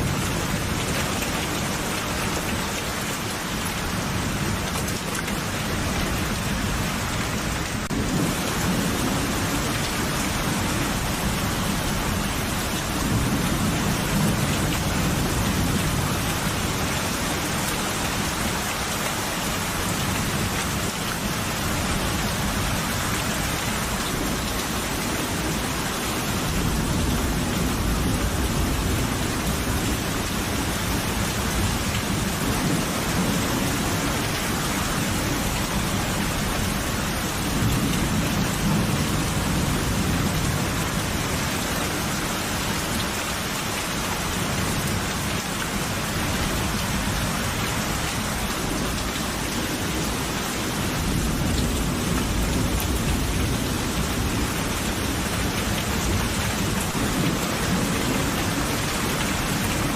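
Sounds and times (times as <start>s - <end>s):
steady rain pouring: 0.0s - 59.9s.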